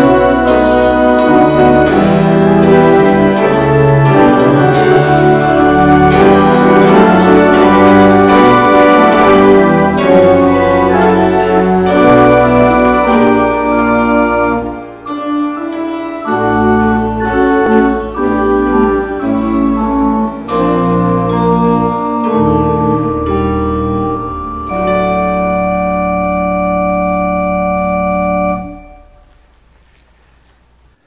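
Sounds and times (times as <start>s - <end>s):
organ playing hymn chords: 0.0s - 31.0s.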